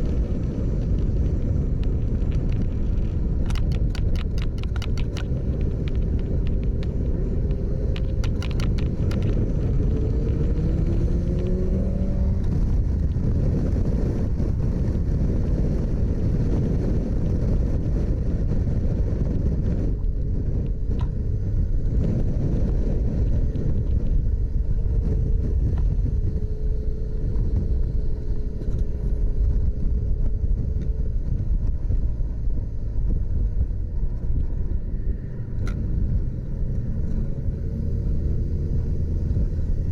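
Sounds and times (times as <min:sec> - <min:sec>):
faint motorcycle engine: 0:00.0 - 0:39.9
wind and road noise: 0:00.0 - 0:39.9.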